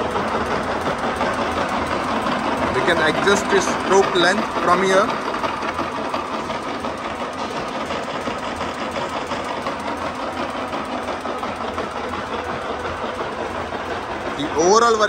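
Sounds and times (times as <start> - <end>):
fast even ticking: 0.0 - 15.0.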